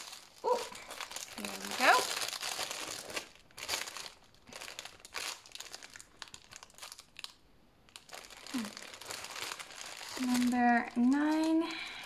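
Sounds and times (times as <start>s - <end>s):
plastic baggies crinkling: 0.0s - 12.0s.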